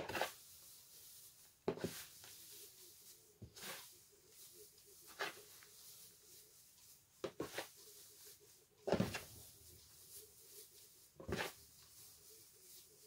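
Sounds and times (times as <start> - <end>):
hands rustling shredded tobacco: 0.0 - 13.0.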